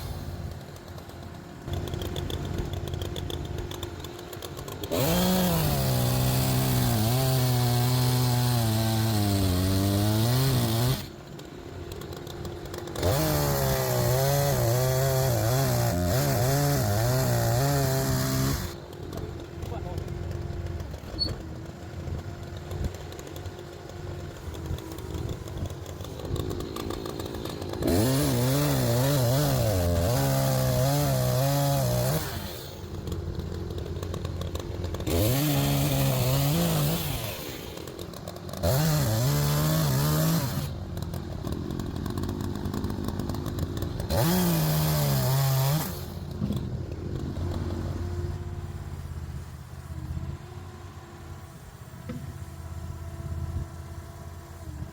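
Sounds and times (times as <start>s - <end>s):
chainsaw revving: 0.0s - 50.4s.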